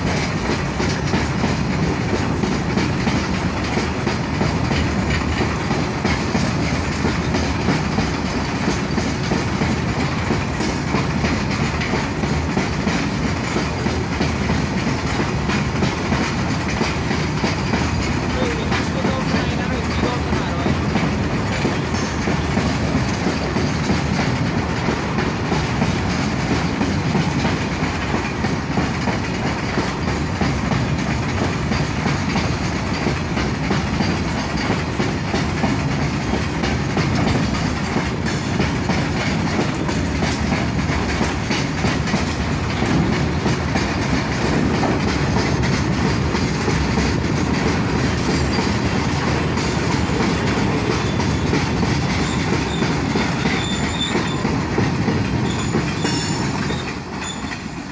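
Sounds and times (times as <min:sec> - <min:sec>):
freight train wheels on rails: 0:00.0 - 0:57.9.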